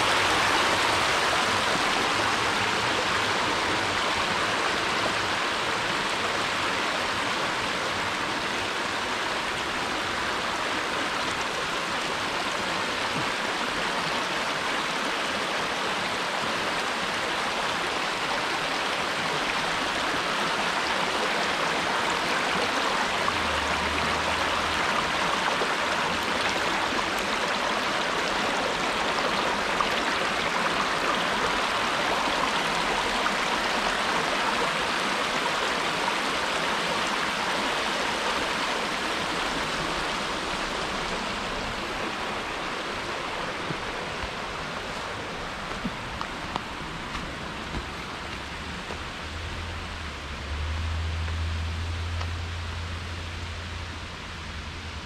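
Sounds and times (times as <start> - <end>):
creek water rushing over rocks: 0.0 - 55.0.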